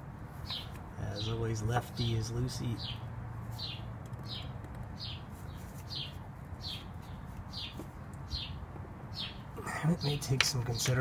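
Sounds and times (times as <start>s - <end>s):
bird chirping: 0.4s - 11.0s.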